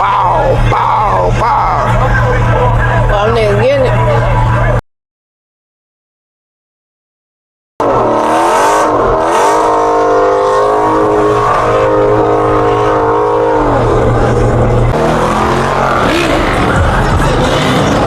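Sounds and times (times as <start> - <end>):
car engine revving: 0.0 - 4.8, 7.8 - 18.0.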